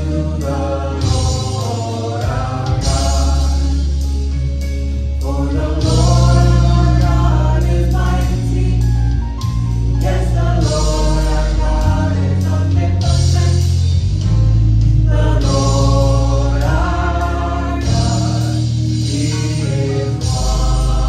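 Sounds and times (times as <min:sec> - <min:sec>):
gospel choir singing: 0:00.0 - 0:21.0
instrumental backing: 0:00.0 - 0:21.0
steady bass line: 0:00.0 - 0:21.0.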